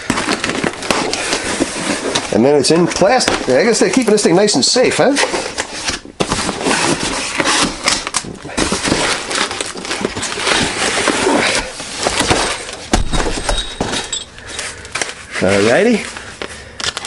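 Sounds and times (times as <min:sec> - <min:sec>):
packaging rustling and crinkling: 0:00.0 - 0:17.0.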